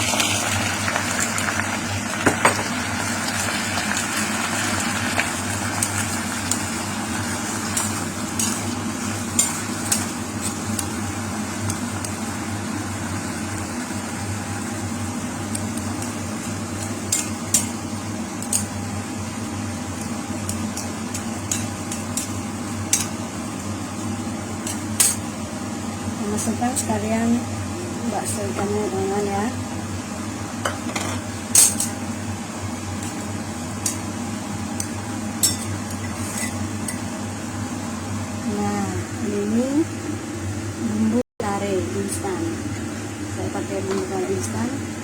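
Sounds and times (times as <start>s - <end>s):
food sizzling in a pan: 0.0s - 39.7s.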